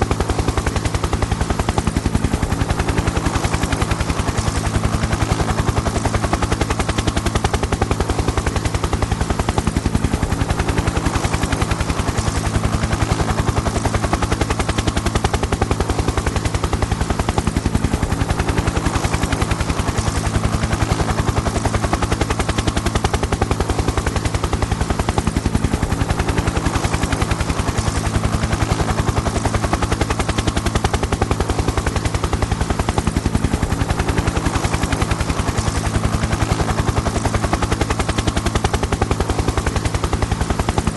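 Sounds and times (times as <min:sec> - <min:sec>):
helicopter rotor chopping: 0:00.0 - 0:40.9.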